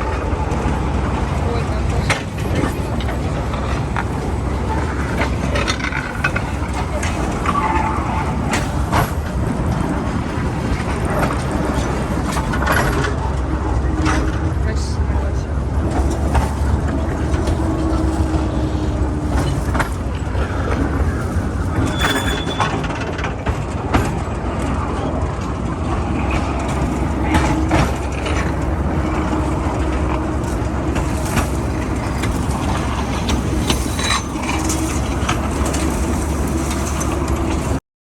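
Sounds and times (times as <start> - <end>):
knocks and rattles: 0.0 - 14.5, 15.8 - 24.7, 26.0 - 37.8
vehicle rumble: 0.0 - 37.8.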